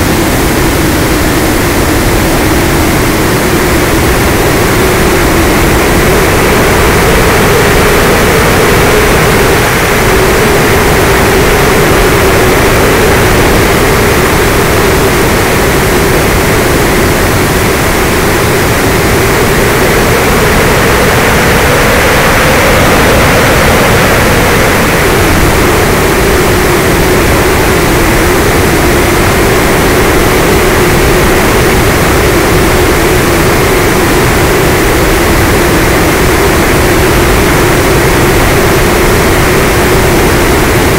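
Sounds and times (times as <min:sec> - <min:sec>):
model aircraft motor drone: 0:00.0 - 0:40.9
wind rushing: 0:02.9 - 0:40.9.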